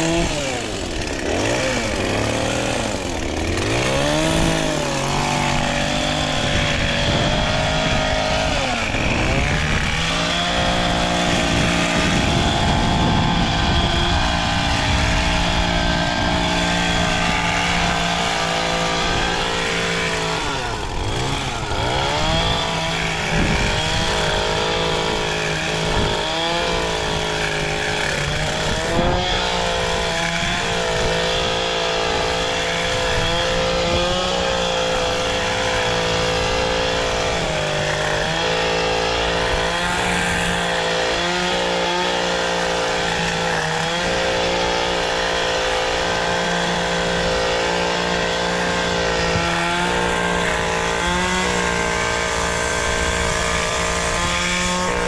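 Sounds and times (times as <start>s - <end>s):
hedge trimmer engine running: 0.0s - 55.0s.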